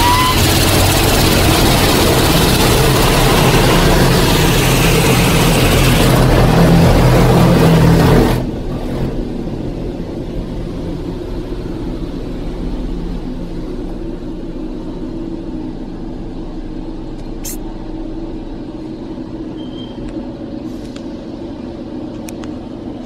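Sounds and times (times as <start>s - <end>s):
car wash machinery rushing: 0.0s - 19.7s.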